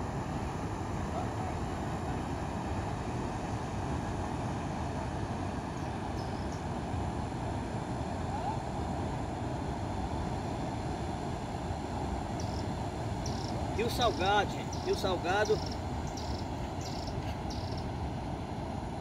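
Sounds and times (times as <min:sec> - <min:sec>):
river water rushing over weir: 0:00.0 - 0:19.0.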